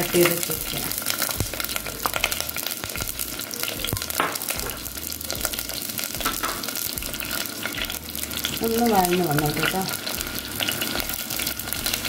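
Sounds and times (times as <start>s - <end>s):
shallots sizzling in oil: 0.0s - 12.0s.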